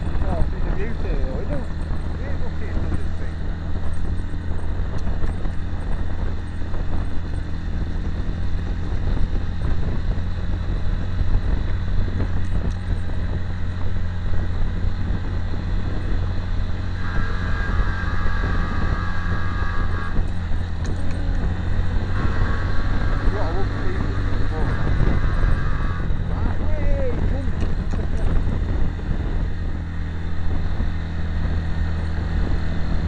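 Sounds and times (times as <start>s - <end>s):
higher steady tone: 0.0s - 33.0s
motorcycle engine running: 0.0s - 33.0s
wind and road noise: 0.0s - 33.0s.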